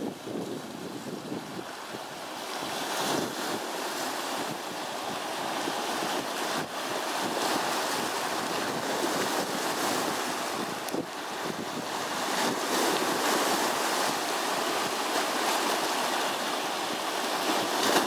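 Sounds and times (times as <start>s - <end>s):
waves breaking on rocky shore: 0.0s - 18.0s
wind on microphone: 0.0s - 18.0s.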